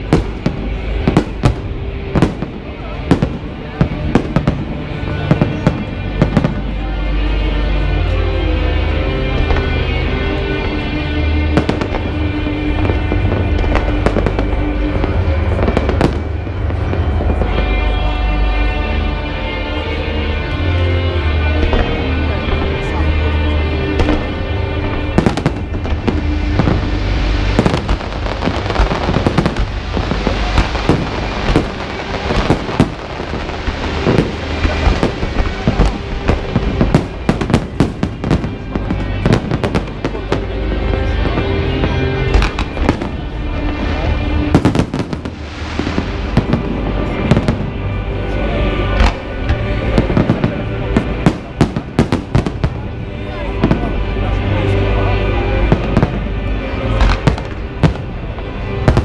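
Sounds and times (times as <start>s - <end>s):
fireworks bursting: 0.0s - 6.9s, 11.4s - 18.2s, 23.9s - 54.0s, 55.6s - 59.0s
music playing: 0.0s - 59.0s.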